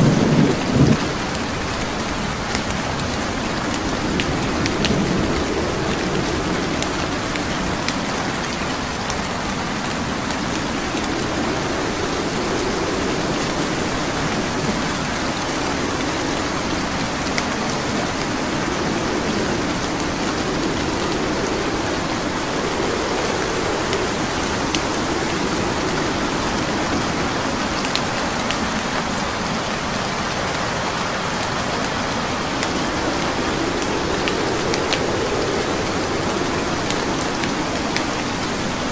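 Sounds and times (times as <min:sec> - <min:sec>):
steady rain: 0:00.0 - 0:38.9
logs crackling in a fireplace: 0:00.5 - 0:29.1, 0:31.0 - 0:38.9.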